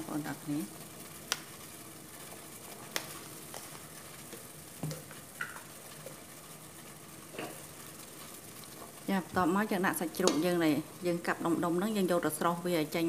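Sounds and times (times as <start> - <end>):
water boiling and bubbling: 0.0 - 13.0.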